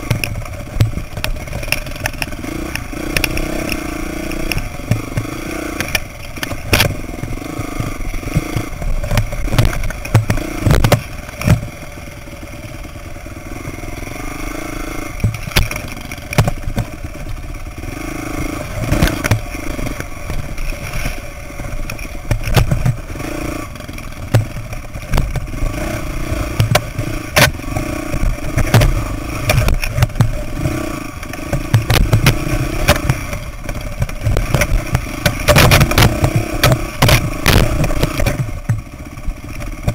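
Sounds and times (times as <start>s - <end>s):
bike chassis rattling over rocks: 0.0s - 39.9s
dirt bike engine revving: 0.0s - 39.9s.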